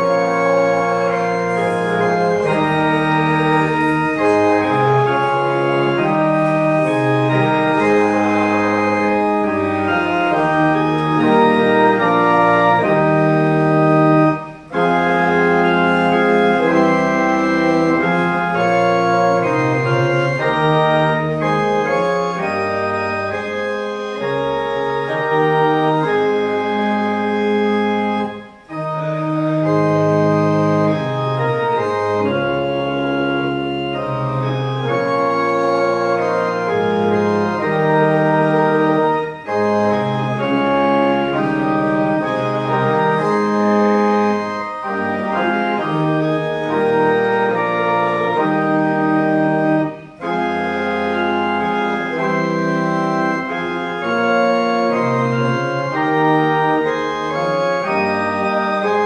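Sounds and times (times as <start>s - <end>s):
pipe organ playing slow chords: 0.0s - 59.0s.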